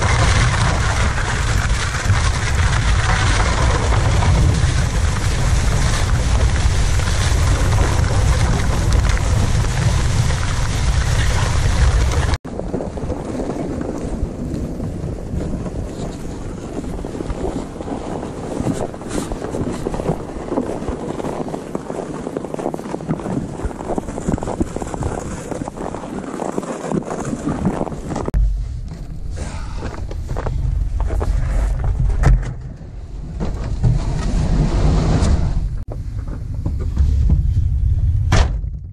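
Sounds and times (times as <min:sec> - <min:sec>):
sled scraping over icy snow: 0:00.0 - 0:32.2, 0:32.8 - 0:35.8
wind buffeting microphone: 0:00.0 - 0:35.9.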